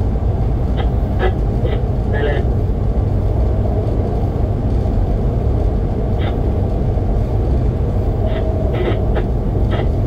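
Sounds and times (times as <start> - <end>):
train rumbling along track: 0.0 - 10.0.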